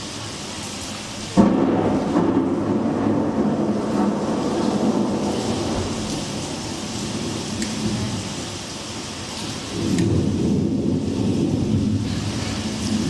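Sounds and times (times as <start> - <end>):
steady rain hiss: 0.0 - 13.0
deep rumble of thunder: 1.4 - 8.7, 9.4 - 13.0.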